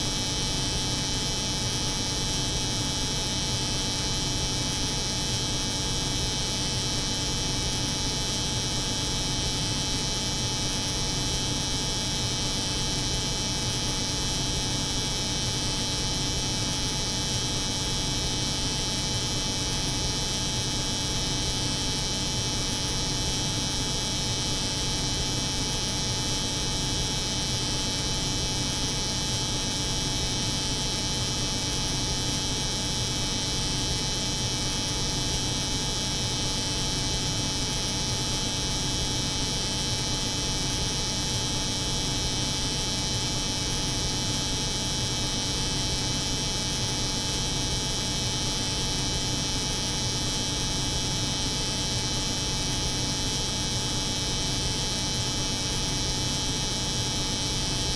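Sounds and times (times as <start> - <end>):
refrigeration unit hum: 0.0 - 57.9.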